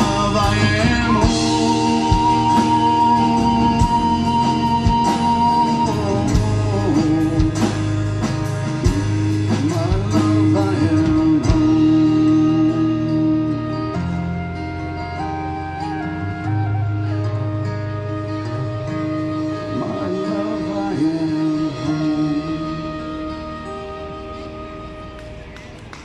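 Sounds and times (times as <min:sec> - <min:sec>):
strummed acoustic guitar: 0:00.0 - 0:24.8
live band playing instrumental: 0:00.0 - 0:26.0.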